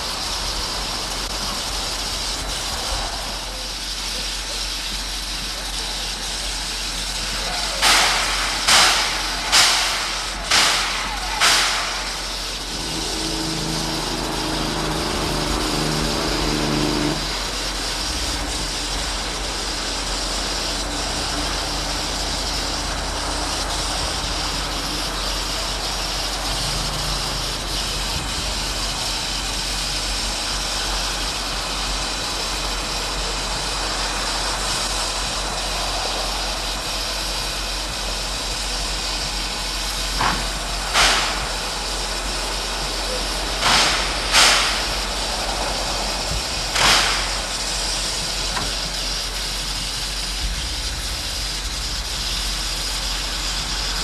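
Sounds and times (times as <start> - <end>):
steam train running rumble: 0.0 - 54.0.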